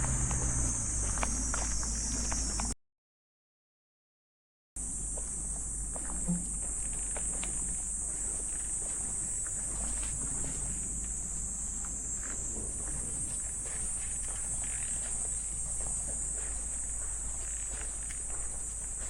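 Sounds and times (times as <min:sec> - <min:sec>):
faint footsteps: 0:00.0 - 0:02.8, 0:05.0 - 0:19.0
high-pitched insect chorus: 0:00.0 - 0:02.8, 0:04.8 - 0:19.0.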